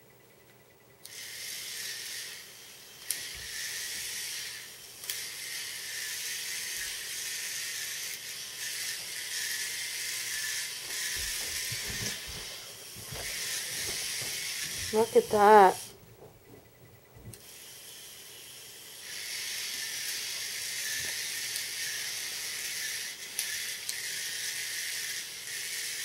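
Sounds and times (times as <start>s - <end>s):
toy motor and gears whirring: 1.0s - 16.0s, 17.3s - 26.0s.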